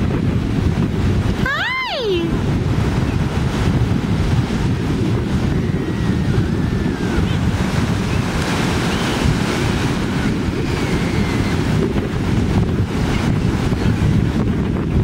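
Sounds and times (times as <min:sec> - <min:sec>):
ocean surf washing ashore: 0:00.0 - 0:15.0
wind buffeting microphone: 0:00.0 - 0:15.0.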